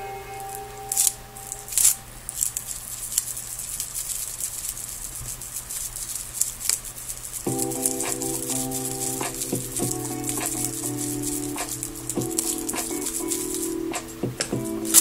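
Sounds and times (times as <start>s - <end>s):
foil rustling and crinkling: 0.9s - 15.0s.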